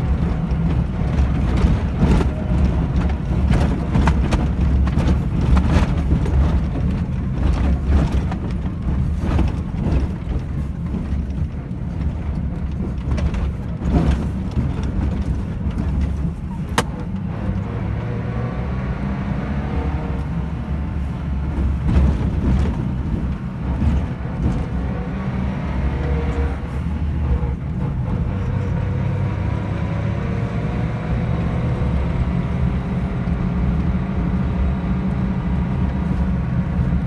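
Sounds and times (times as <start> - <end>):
thumps and rattles over bumps: 0.0 - 17.9, 20.1 - 37.0
car tyres and engine rumbling: 0.0 - 37.0.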